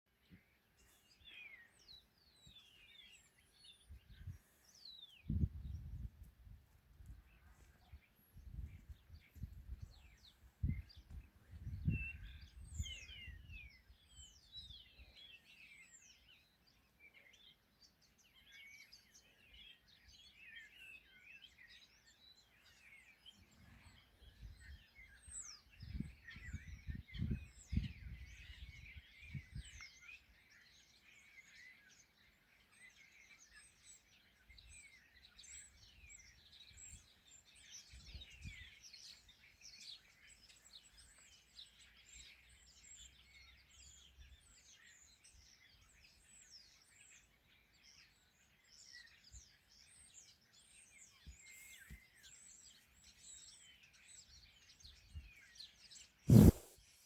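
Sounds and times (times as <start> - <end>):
songbirds chirping and trilling: 0.1 - 57.0.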